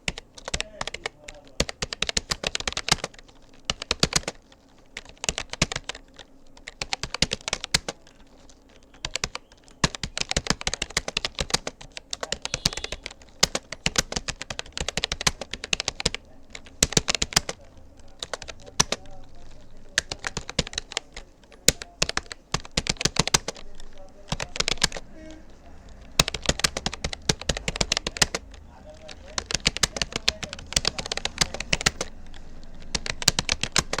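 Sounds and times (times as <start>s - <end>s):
computer keyboard typing: 0.0s - 34.0s.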